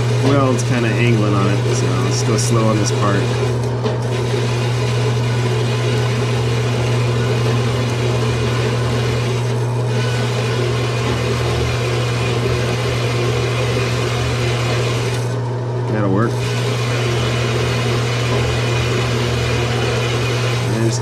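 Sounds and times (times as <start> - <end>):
bandsaw cutting steel: 0.0 - 3.6, 4.2 - 15.4, 16.3 - 21.0.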